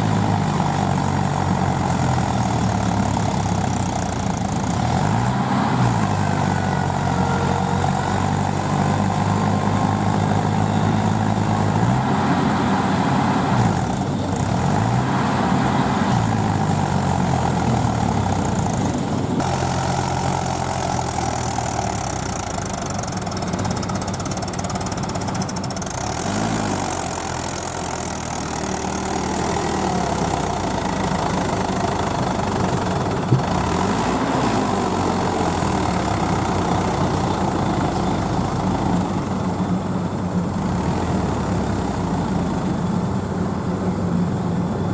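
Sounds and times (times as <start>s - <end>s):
heavy farm machine engine: 0.0s - 44.9s.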